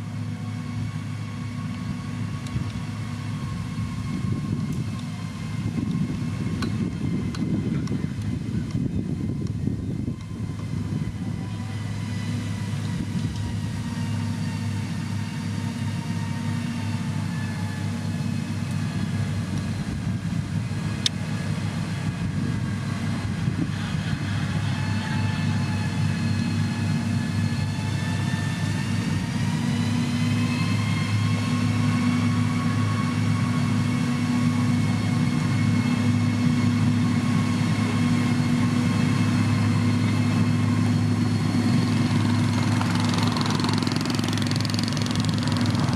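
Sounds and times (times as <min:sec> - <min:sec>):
diesel engine running under work: 0:00.0 - 0:45.9
high engine whine: 0:00.0 - 0:45.9.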